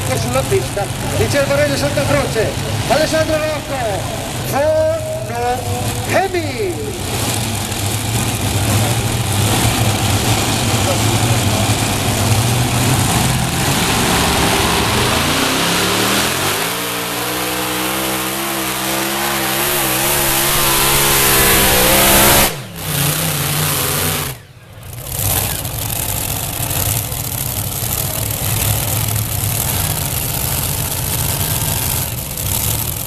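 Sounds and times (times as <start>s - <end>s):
tractor engine at full throttle: 0.0s - 33.0s.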